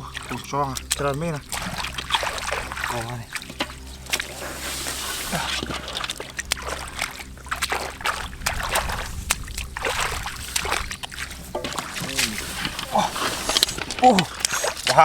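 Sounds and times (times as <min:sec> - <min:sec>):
muddy water sloshing and splashing: 0:00.0 - 0:15.0
steady low hum: 0:00.0 - 0:15.0.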